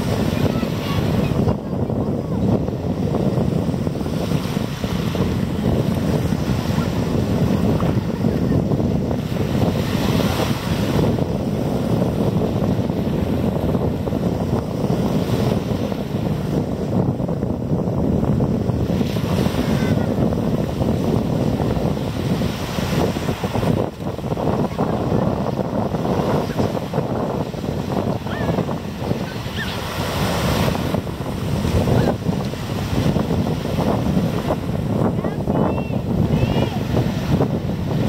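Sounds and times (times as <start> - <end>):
surf rushing: 0.0 - 38.0
waves washing in: 0.0 - 38.0
wind buffeting microphone: 0.0 - 38.0.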